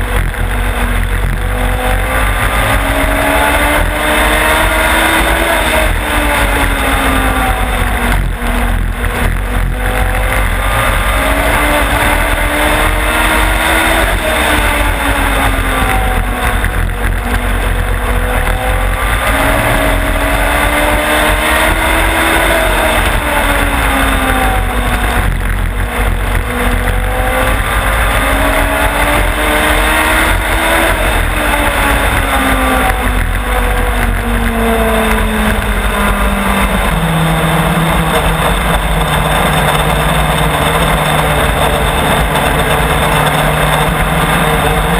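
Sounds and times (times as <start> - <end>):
race car engine at speed: 0.0 - 44.9.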